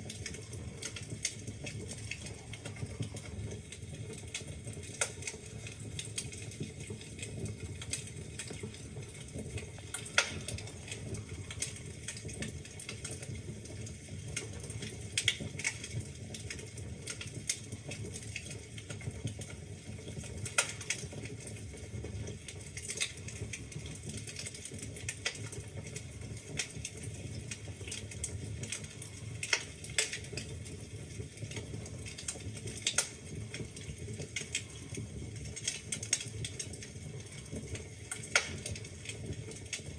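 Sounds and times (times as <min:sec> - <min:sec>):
logs crackling and popping: 0:00.0 - 0:39.9
low rumble of flame: 0:00.0 - 0:39.9.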